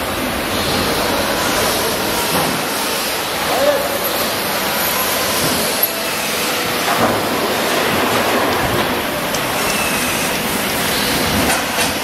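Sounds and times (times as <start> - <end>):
factory machinery rushing: 0.0 - 12.0.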